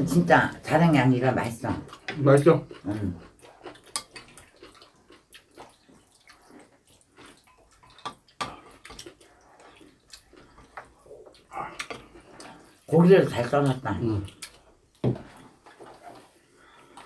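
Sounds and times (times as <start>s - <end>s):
wet chewing and slurping: 1.6s - 17.0s.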